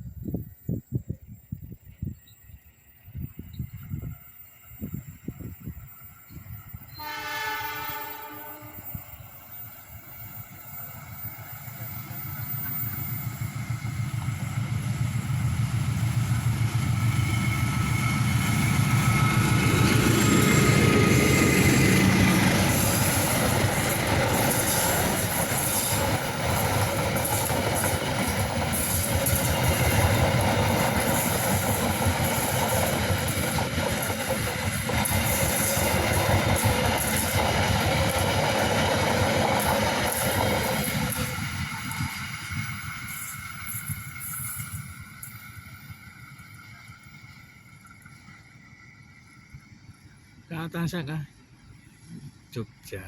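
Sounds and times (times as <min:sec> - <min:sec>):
passenger train passing: 0:00.0 - 0:53.0.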